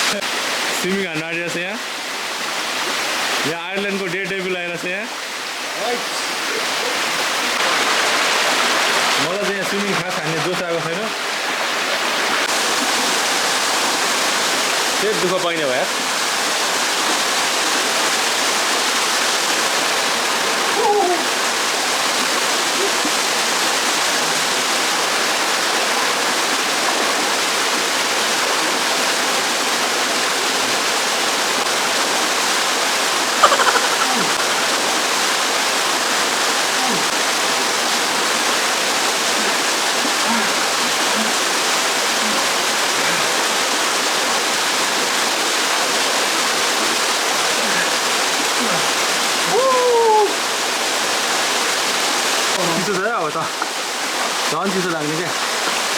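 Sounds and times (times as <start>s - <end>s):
waterfall pouring: 7.2s - 55.9s.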